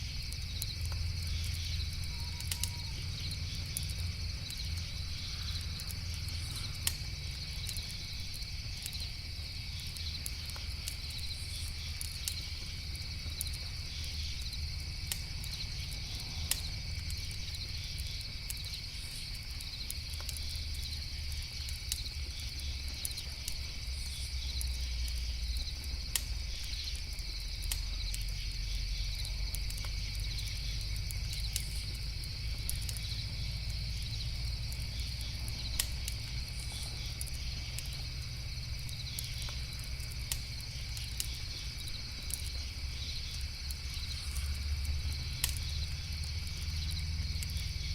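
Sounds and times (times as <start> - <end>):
campfire crackles: 0.0 - 47.9
crickets chirring: 0.0 - 47.9.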